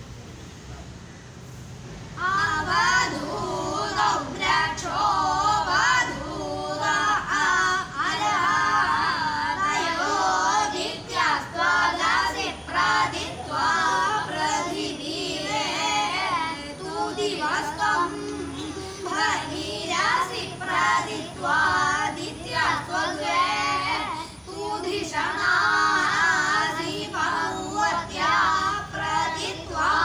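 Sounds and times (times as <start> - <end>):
boys singing together: 2.2 - 30.0.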